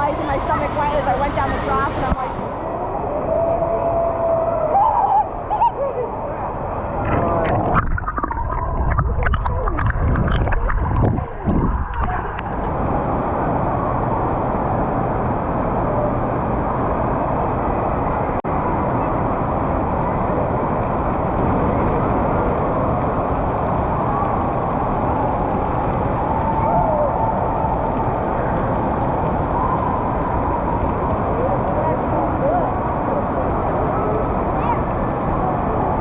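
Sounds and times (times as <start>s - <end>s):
rushing water: 0.0s - 36.0s.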